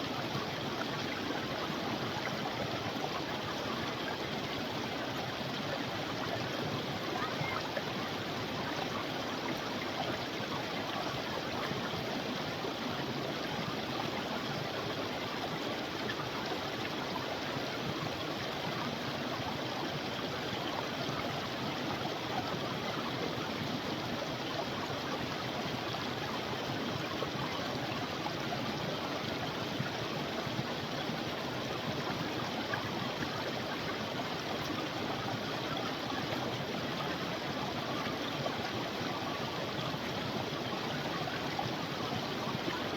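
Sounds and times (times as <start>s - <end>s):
creek water flowing over rocks: 0.0s - 42.9s.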